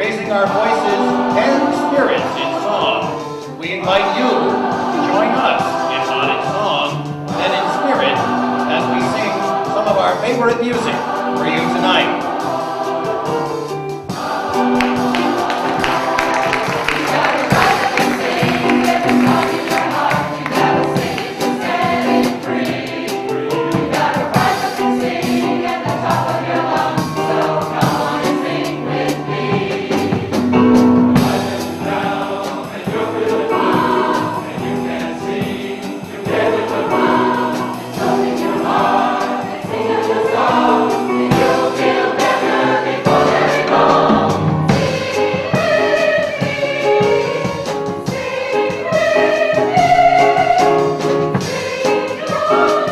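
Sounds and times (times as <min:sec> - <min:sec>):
chorus singing: 0:00.0 - 0:52.9.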